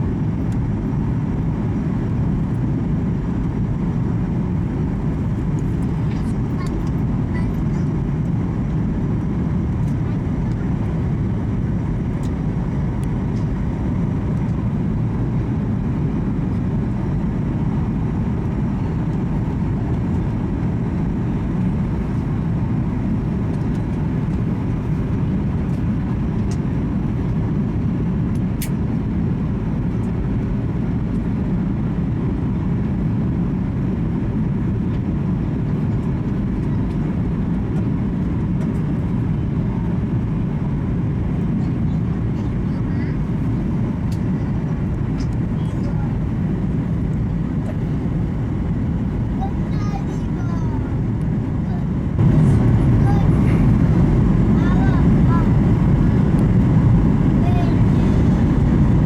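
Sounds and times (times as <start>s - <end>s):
airflow over fuselage: 0.0s - 59.0s
airplane cabin engine rumble: 0.0s - 59.0s.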